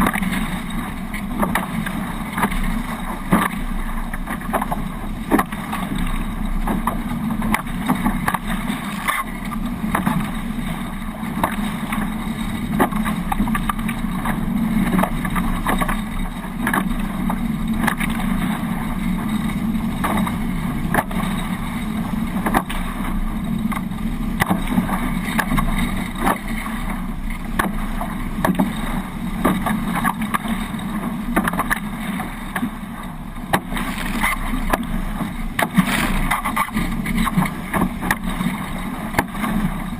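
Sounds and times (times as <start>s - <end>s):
rush of wind and water: 0.0s - 39.9s.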